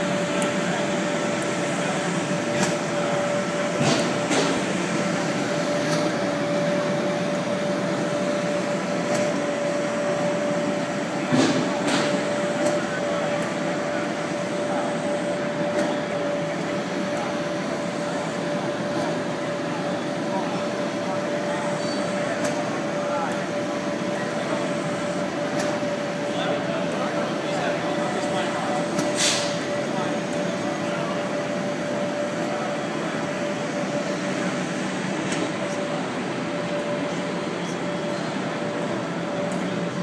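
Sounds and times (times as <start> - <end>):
exhibition hall din: 0.0 - 40.0.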